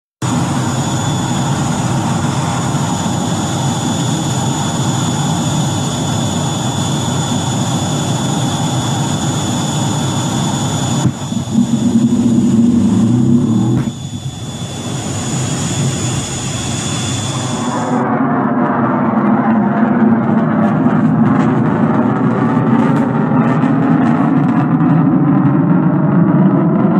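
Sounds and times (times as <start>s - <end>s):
high whine: 0.2s - 26.9s
jet engines at high power: 0.2s - 26.9s
loud low rumble: 0.2s - 26.9s.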